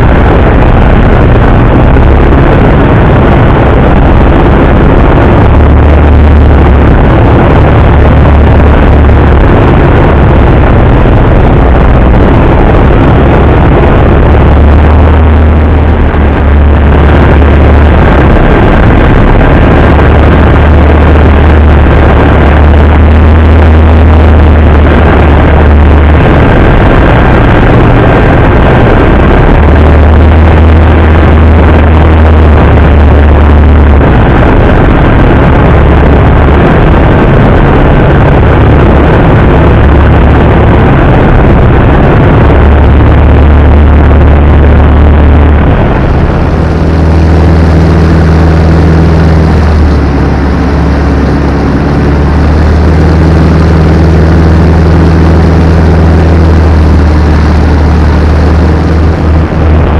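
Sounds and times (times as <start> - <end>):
propeller airplane engine droning: 0.0 - 59.9.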